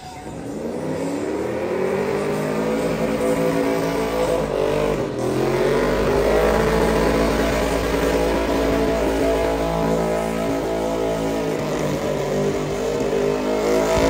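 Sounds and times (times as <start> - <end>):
truck engine revving hard: 0.2 - 14.0.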